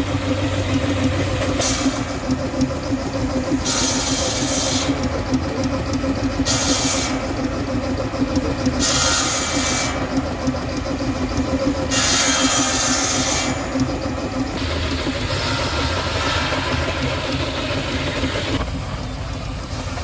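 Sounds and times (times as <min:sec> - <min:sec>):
steam engine humming: 0:00.0 - 0:20.0
steam hissing: 0:00.2 - 0:18.6.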